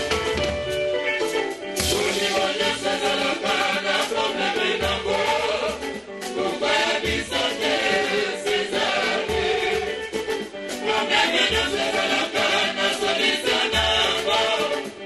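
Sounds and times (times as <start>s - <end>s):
drum kit: 0.0s - 15.0s
electric guitar: 0.0s - 15.0s
men singing together: 1.8s - 10.2s, 10.8s - 15.0s.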